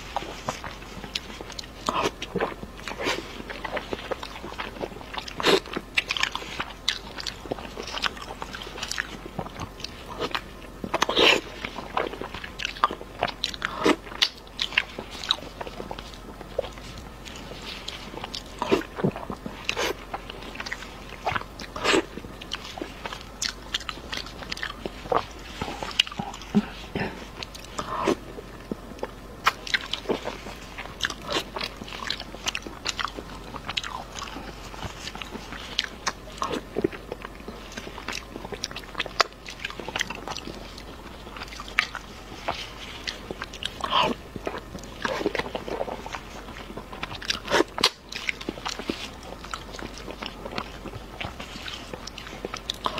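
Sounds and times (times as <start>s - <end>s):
wet biting and chewing: 0.0s - 52.9s.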